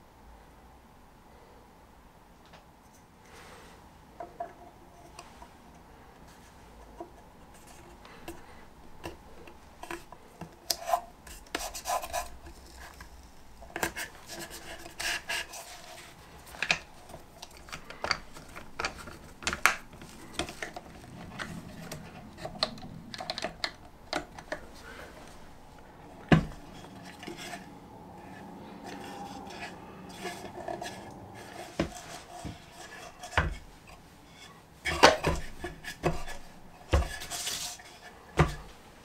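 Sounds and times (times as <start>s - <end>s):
hand tools rubbing and scraping wood: 4.4s - 39.0s.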